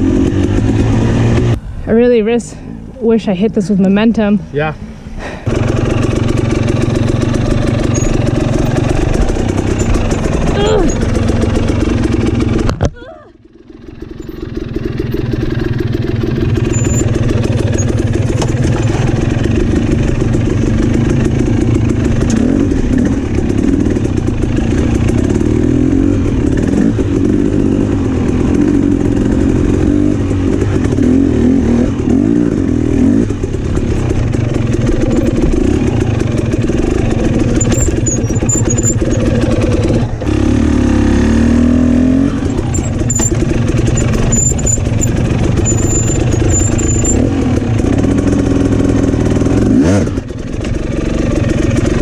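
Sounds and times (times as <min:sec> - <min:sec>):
dirt bike engine revving: 0:00.0 - 0:02.3, 0:03.0 - 0:12.7, 0:13.7 - 0:52.0.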